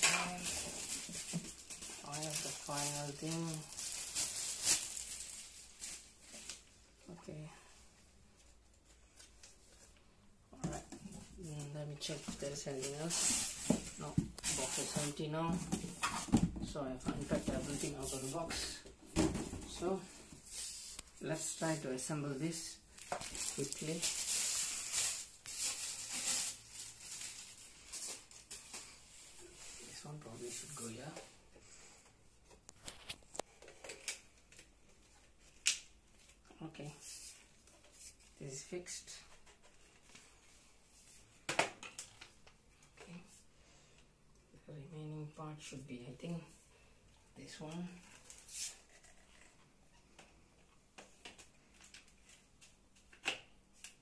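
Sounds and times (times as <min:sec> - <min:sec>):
plastic rustling and crinkling: 0:00.0 - 0:07.3, 0:08.3 - 0:31.4, 0:32.4 - 0:43.4, 0:47.4 - 0:54.0.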